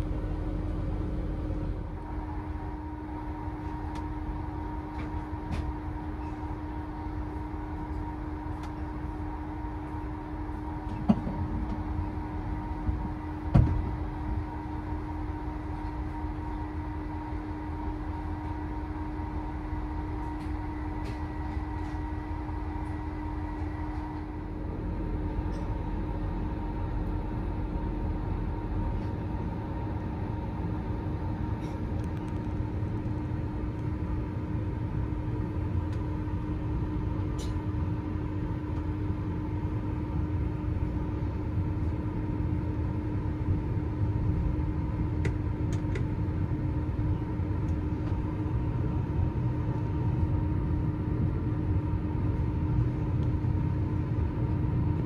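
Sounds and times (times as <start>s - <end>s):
train rumble and hum: 0.0s - 55.0s.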